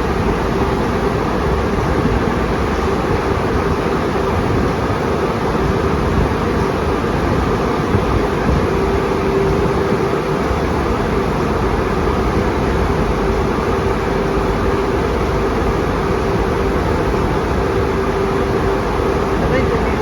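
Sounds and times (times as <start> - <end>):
car wash dryer blowers: 0.0 - 20.0.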